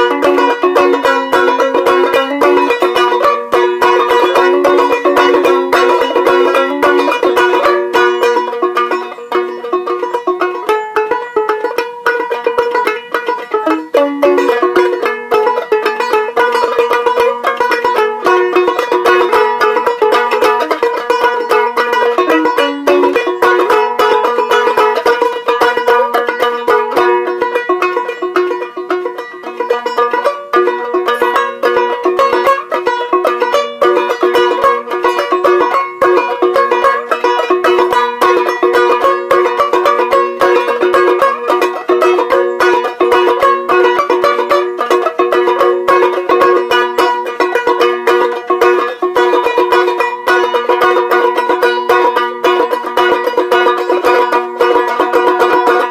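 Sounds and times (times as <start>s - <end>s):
banjo ukulele strummed: 0.0s - 55.9s.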